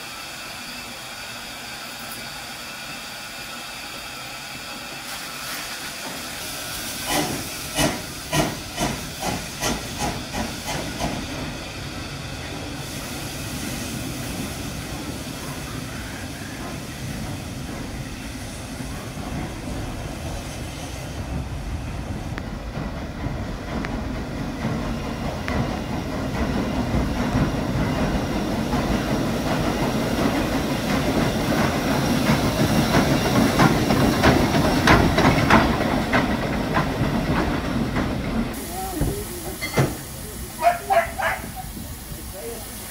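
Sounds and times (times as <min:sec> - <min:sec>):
steam hissing: 0:00.0 - 0:42.9
steam locomotive chuffing: 0:00.0 - 0:42.9.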